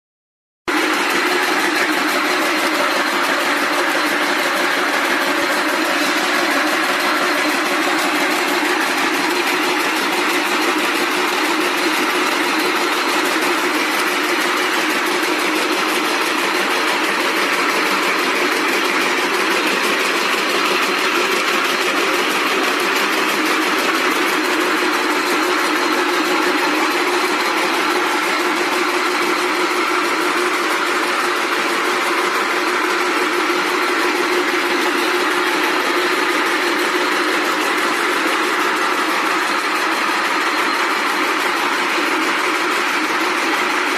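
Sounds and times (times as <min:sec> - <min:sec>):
braiding machines clattering: 0:00.7 - 0:43.9.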